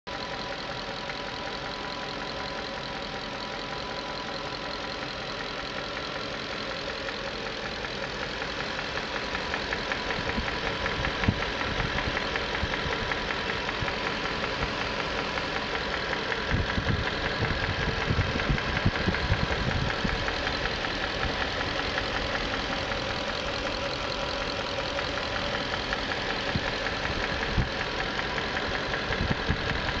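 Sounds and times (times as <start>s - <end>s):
car engine idling with ticking: 0.1s - 30.0s.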